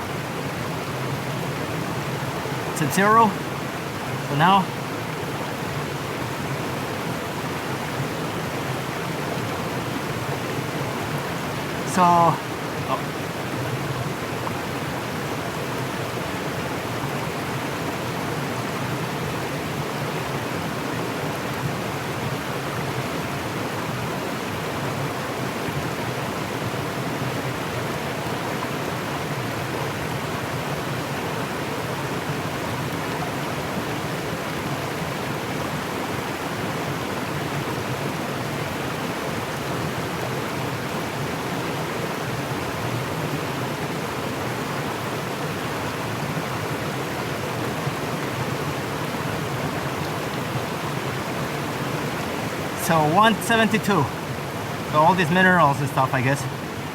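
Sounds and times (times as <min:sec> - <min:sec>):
stream rushing over rocks: 0:00.0 - 0:56.9.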